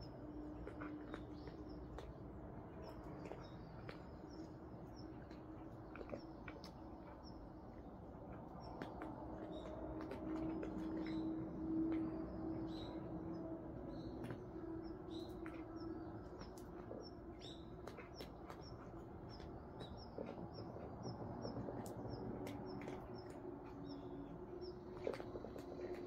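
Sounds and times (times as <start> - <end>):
cats chewing dry food: 0.0 - 26.0.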